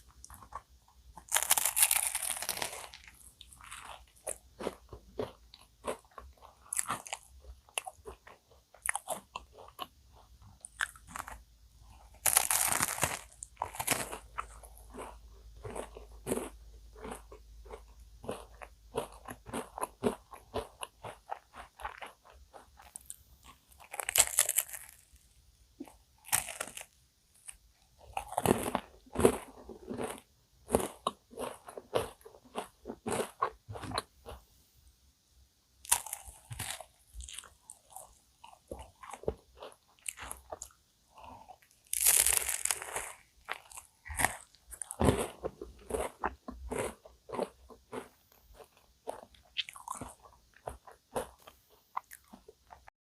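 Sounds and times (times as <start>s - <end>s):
chewing and crunching pastry: 0.0s - 34.5s, 35.8s - 52.9s.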